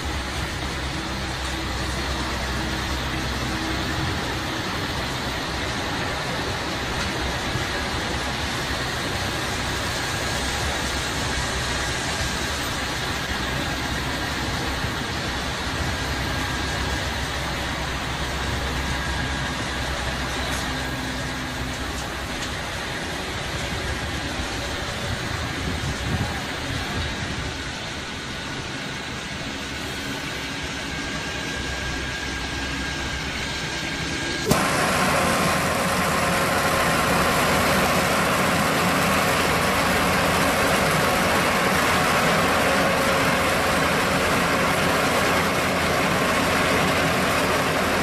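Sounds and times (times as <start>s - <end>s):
faint high whine: 0.0s - 48.0s
heavy diesel machinery running: 0.0s - 48.0s.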